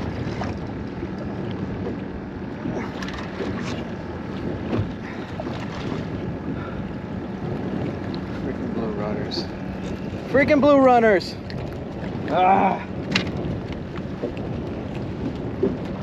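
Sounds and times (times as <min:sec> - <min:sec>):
water lapping against boat hull: 0:00.0 - 0:16.0
wind buffeting microphone: 0:00.0 - 0:16.0.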